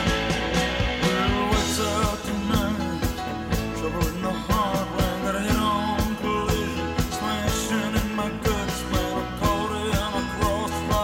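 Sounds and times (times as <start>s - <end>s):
rock song with singing: 0.0s - 11.0s.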